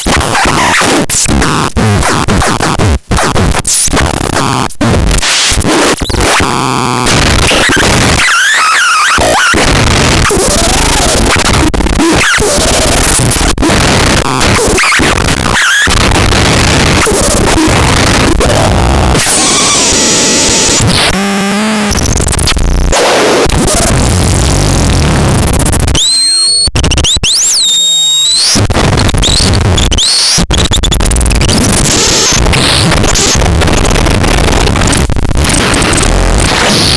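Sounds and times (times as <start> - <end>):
harsh electronic noise: 0.0 - 36.9.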